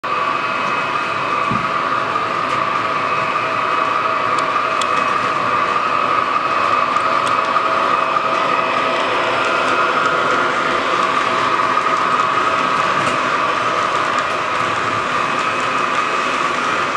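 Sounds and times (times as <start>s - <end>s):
model locomotive motor whine: 0.0s - 16.9s
wheels rumbling on rails: 0.0s - 16.9s.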